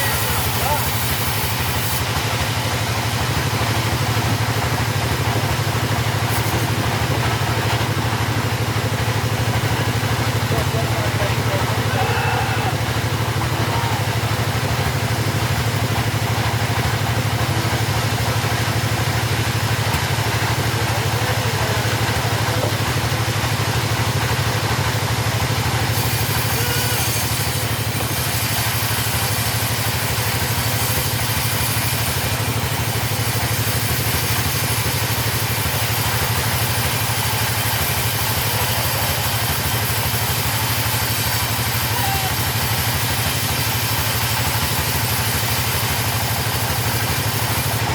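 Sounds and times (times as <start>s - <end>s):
chainsaw engine running: 0.0s - 47.9s.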